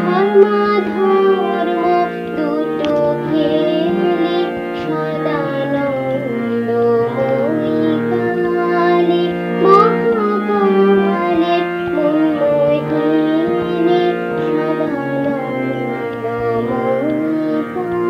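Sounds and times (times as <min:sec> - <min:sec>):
held drone notes: 0:00.0 - 0:18.0
wavering melodic line: 0:00.0 - 0:18.0.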